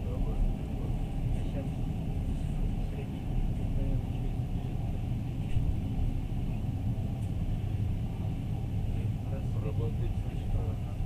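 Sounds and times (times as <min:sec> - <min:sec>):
train carriage rumbling: 0:00.0 - 0:11.0.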